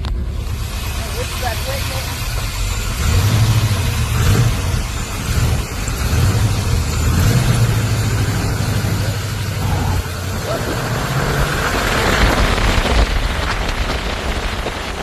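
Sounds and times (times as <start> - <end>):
road noise: 0.0 - 15.0
truck engine accelerating: 0.0 - 15.0
rushing wind: 2.2 - 15.0.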